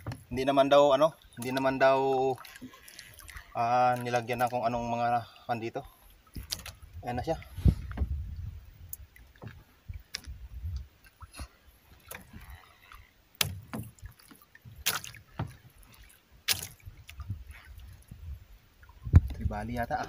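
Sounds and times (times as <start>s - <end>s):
water sloshing against hull: 0.0s - 20.0s.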